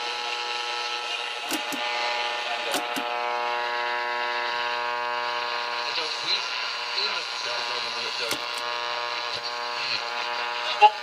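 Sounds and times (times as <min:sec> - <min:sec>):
radio speaker electrical buzz: 0:00.0 - 0:11.0.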